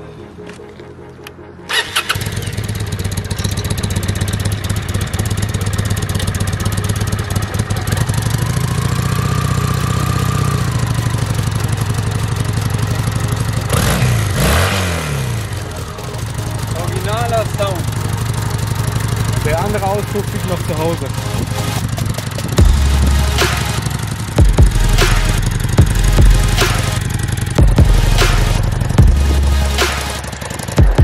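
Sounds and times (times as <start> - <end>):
motorcycle engine starting and running: 0.4 - 31.0.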